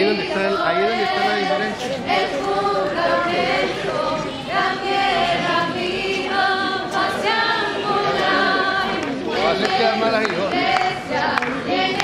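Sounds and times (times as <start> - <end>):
choir singing in harmony: 0.0 - 12.0.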